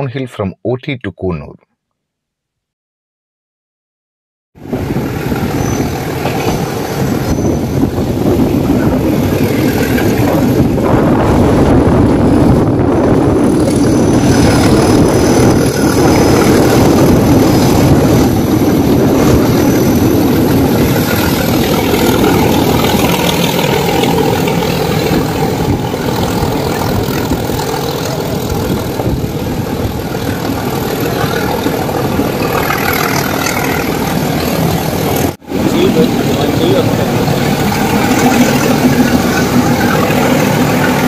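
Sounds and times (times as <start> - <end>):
train engine and rail noise: 4.6 - 41.0.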